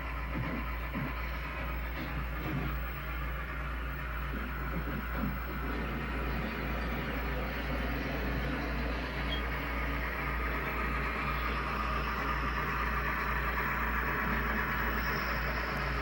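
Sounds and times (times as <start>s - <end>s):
low hum: 0.0s - 16.0s
steam engine sounds through speaker: 0.0s - 16.0s.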